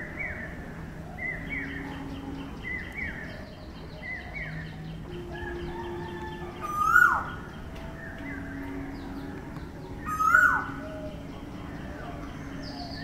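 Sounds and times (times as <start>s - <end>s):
faint bird notes: 0.0s - 13.0s.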